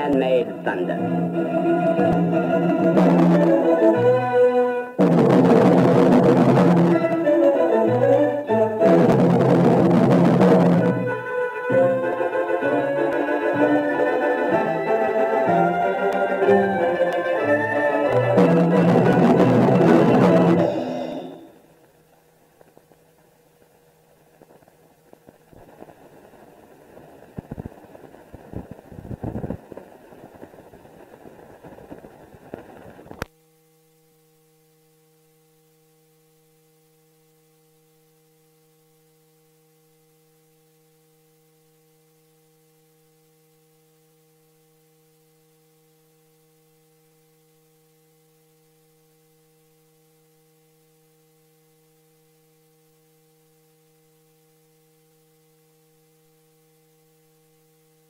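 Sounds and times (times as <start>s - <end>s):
faint electrical hum: 0.0s - 58.0s
film soundtrack crackling and popping: 0.0s - 58.0s.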